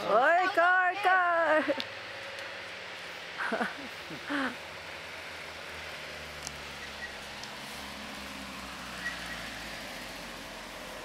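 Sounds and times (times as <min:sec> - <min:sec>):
car engine humming: 0:00.0 - 0:11.0
steady outdoor hiss: 0:00.0 - 0:11.0.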